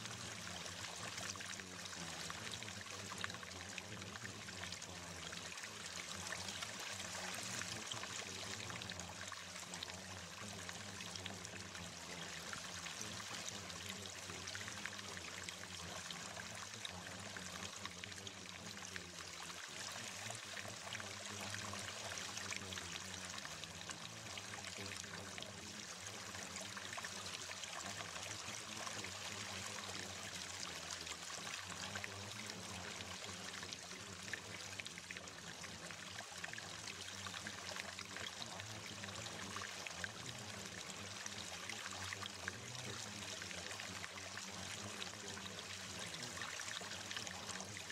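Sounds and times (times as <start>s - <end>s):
flowing water: 0.0s - 47.9s.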